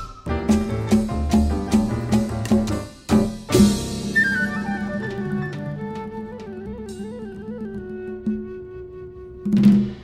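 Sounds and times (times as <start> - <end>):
flute melody: 0.0 - 2.2, 3.9 - 10.0
light percussion: 0.0 - 10.0.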